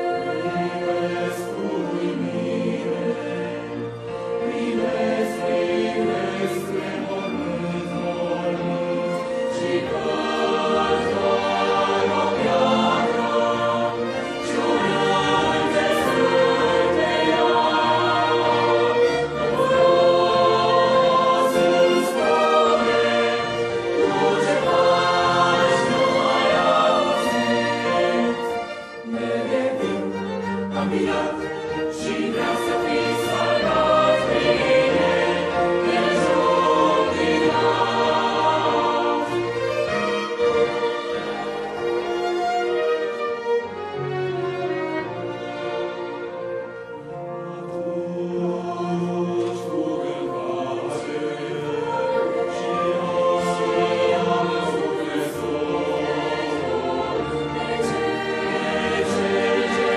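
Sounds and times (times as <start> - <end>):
mixed choir singing: 0.0 - 59.9
violins playing: 0.0 - 59.9.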